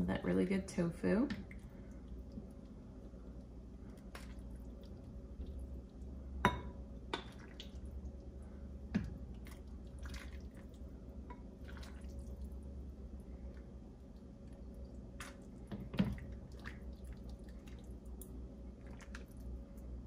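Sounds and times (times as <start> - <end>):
low steady hum: 0.0 - 20.0
broth pouring and dripping: 1.4 - 6.4, 7.2 - 20.0.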